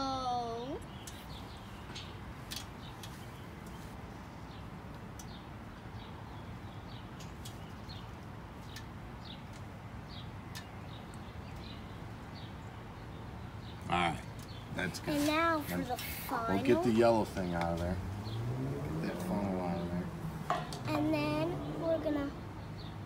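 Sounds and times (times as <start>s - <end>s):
small birds chirping: 0.0s - 23.0s
steady outdoor hiss: 0.0s - 23.0s.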